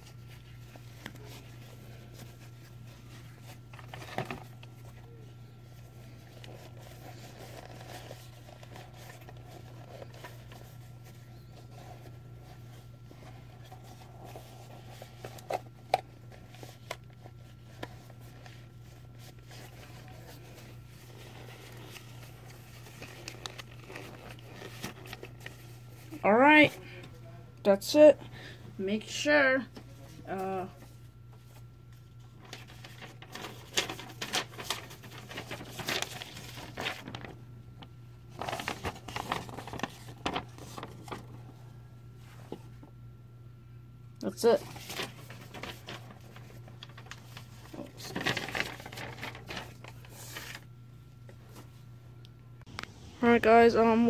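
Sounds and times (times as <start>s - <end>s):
packaging rustling: 0.0s - 26.2s, 30.8s - 41.6s, 44.5s - 51.7s
steady low hum: 0.0s - 54.0s.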